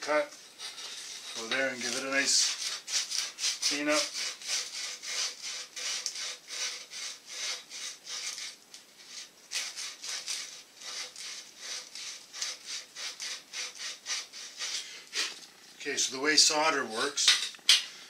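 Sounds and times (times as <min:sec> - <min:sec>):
sand cloth rubbing copper tube: 0:00.1 - 0:16.1.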